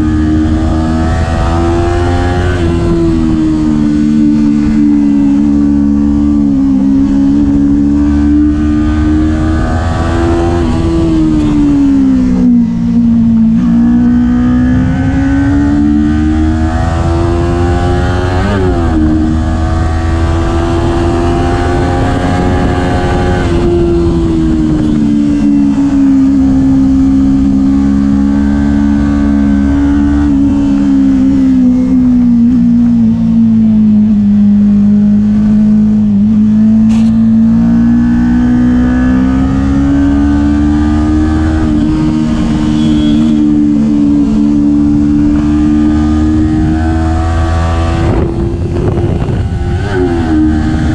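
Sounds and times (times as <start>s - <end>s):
motorcycle engine while riding: 0.0s - 50.9s.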